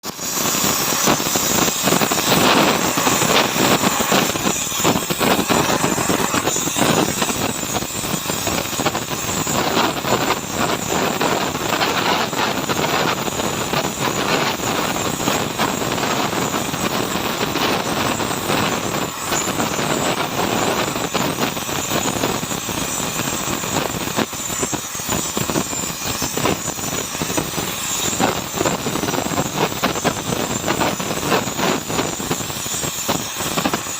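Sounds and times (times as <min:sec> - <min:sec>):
crackling hiss of metalwork: 0:00.0 - 0:33.9.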